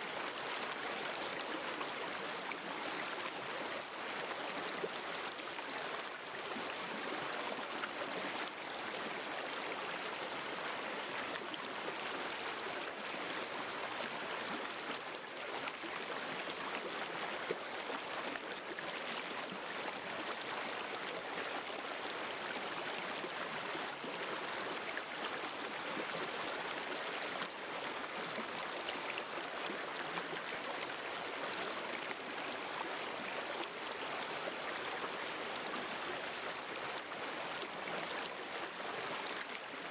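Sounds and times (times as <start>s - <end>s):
water flowing over rocks: 0.0s - 39.9s.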